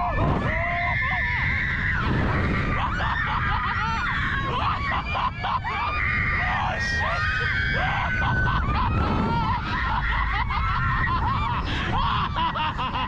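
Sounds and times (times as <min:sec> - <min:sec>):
riders screaming: 0:00.0 - 0:13.0
wind rumble on microphone: 0:00.0 - 0:13.0.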